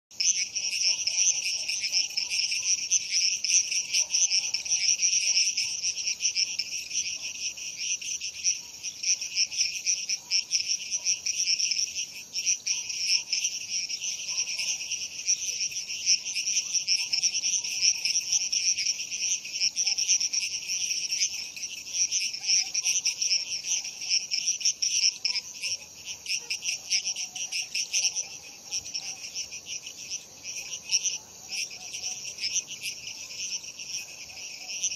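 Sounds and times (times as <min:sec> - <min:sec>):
crickets chirping: 0:00.1 - 0:34.9
faint frog calls: 0:00.2 - 0:34.9.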